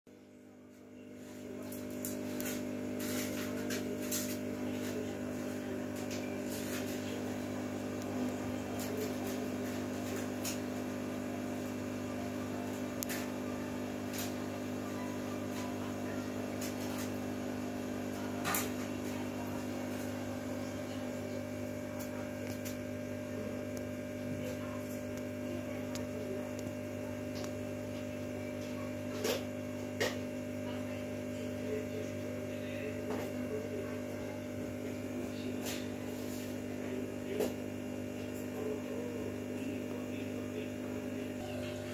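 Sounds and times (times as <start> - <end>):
air pump humming: 0.8 - 41.9.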